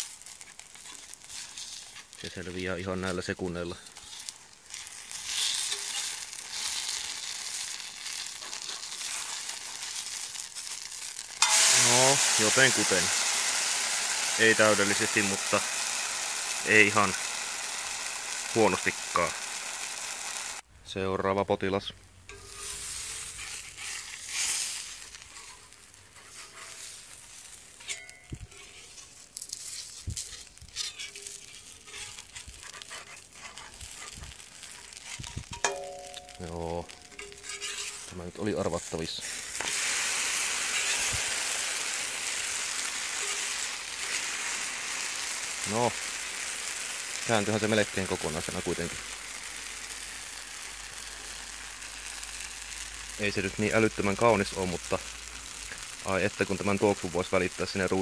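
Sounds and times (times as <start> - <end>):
spatula scraping griddle: 0.0 - 3.2, 3.8 - 20.6, 22.3 - 35.8, 36.4 - 53.6
batter sizzling in a pan: 0.0 - 20.7, 22.3 - 58.0.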